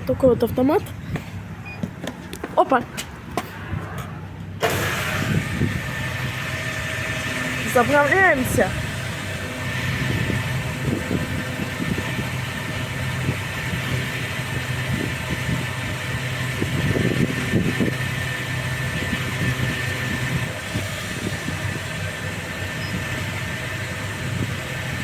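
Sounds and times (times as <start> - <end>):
wind buffeting microphone: 0.0 - 25.0
fuel pump humming and whining: 4.5 - 25.0.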